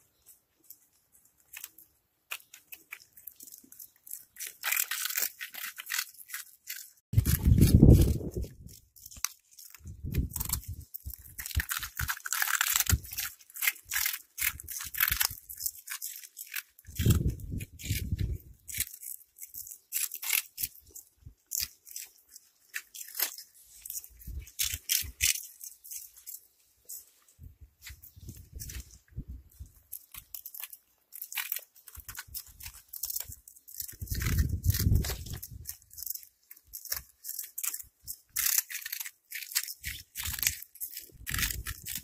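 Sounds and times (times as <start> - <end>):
cats crunching snack balls: 0.6 - 27.2, 27.8 - 42.0.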